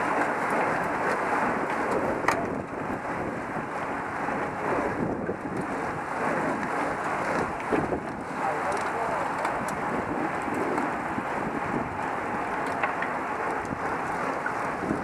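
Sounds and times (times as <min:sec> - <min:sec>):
wind on microphone: 0:01.4 - 0:15.0.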